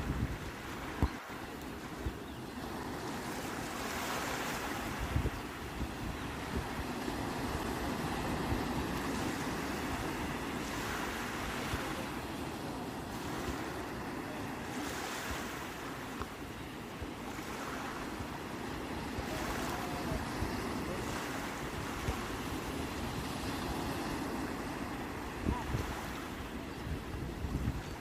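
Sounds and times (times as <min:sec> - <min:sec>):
sea waves breaking: 0:00.0 - 0:28.0
wind rumbling on microphone: 0:00.0 - 0:28.0.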